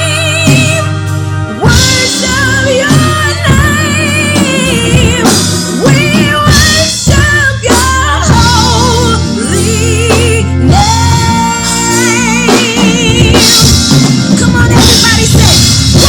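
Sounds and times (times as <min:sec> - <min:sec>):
bass and drums: 0:00.0 - 0:16.0
gospel singing with vibrato: 0:00.0 - 0:16.0.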